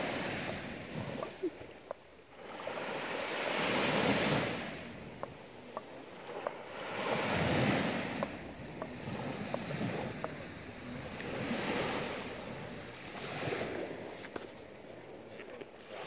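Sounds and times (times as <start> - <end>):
small waves on sandy shore: 0.0 - 16.0.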